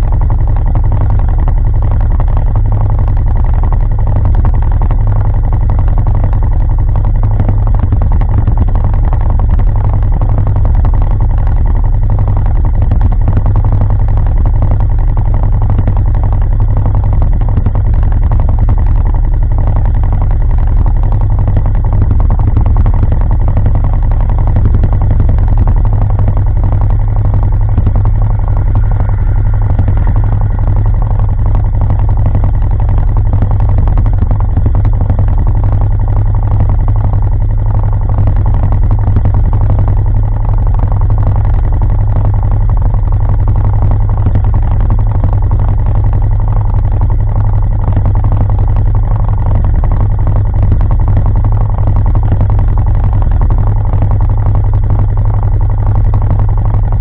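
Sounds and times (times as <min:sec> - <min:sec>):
atv engine idling: 0:00.0 - 0:57.0.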